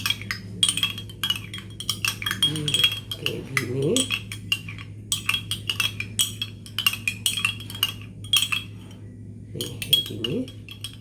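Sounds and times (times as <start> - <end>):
spoon clinking against cup: 0.0 - 9.0, 9.6 - 11.0
low steady hum: 0.0 - 11.0.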